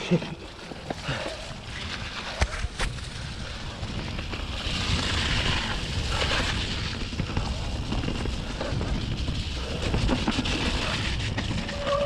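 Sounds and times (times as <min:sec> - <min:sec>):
bike tyres rolling through leaves: 0:00.0 - 0:12.0
wind rumble on microphone: 0:00.4 - 0:12.0.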